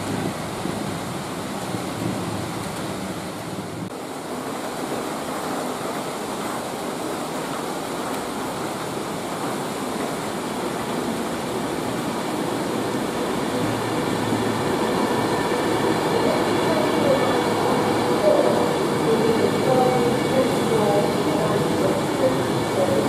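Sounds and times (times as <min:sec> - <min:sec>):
rain hiss: 0:00.0 - 0:23.0
train approaching: 0:00.0 - 0:23.0.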